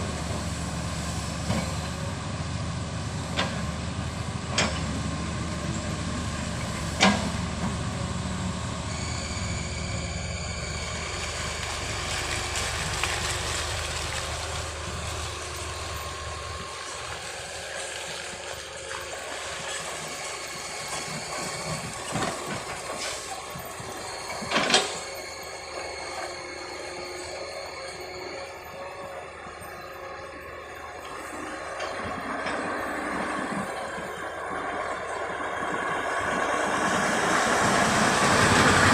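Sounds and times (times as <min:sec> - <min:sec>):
heavy vehicle engine rumbling: 0:00.0 - 0:38.9.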